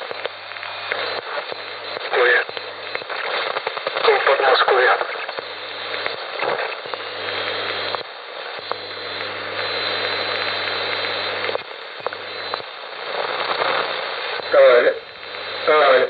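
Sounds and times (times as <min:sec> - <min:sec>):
low hum of radio carriers: 0:00.0 - 0:16.0
radio static hiss: 0:00.0 - 0:16.0.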